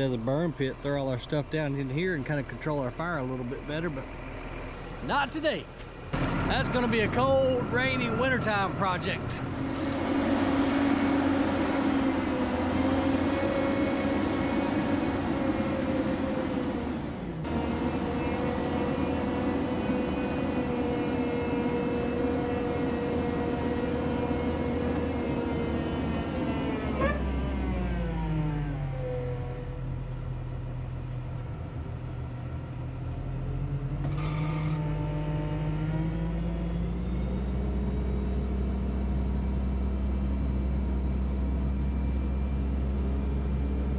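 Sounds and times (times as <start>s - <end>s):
heavy diesel engine revving: 0.0s - 43.9s.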